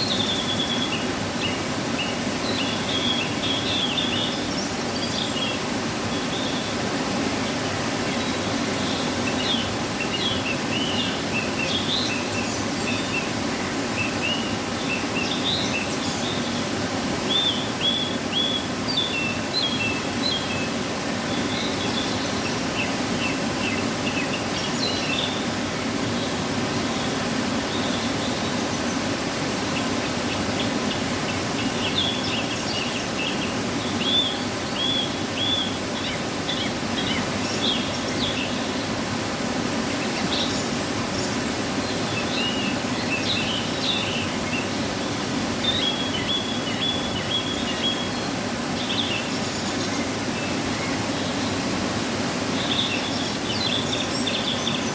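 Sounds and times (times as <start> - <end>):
waterfall rushing: 0.0 - 54.9
small birds chirping: 7.3 - 54.9.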